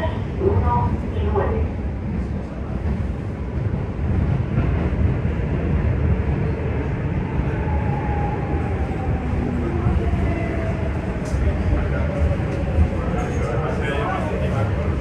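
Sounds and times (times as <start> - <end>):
train rumbling through tunnel: 0.0 - 15.0.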